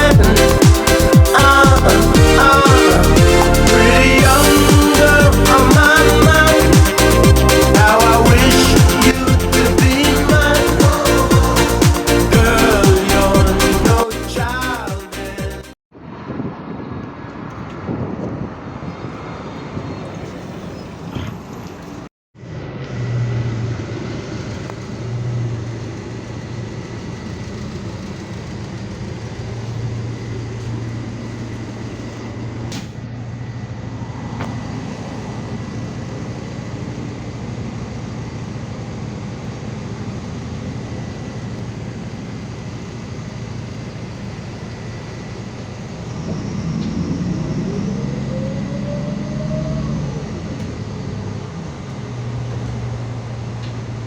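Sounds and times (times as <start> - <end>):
rising engine whine: 0.0 - 15.4, 16.0 - 54.0
bus engine hum: 0.0 - 54.0.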